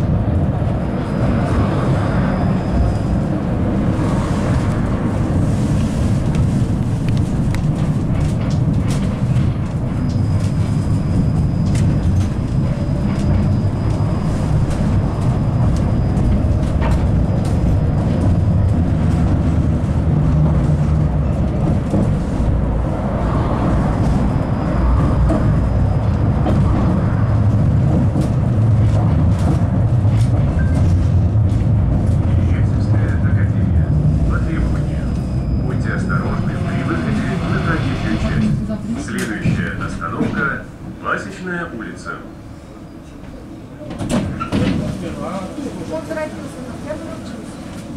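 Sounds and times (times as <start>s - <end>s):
tram wheels rumbling on rails: 0.0s - 47.9s.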